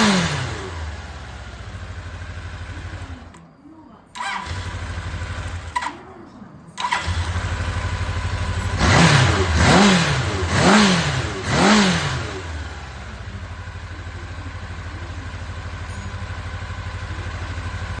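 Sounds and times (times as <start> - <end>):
motorcycle engine revving and idling: 0.0 - 3.4, 4.1 - 6.2, 6.8 - 18.0.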